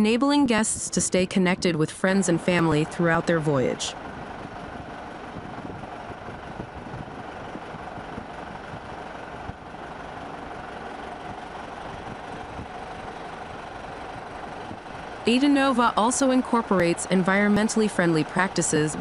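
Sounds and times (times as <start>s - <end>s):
faint steady drone: 0.0s - 19.0s
industrial machinery hum: 0.0s - 19.0s.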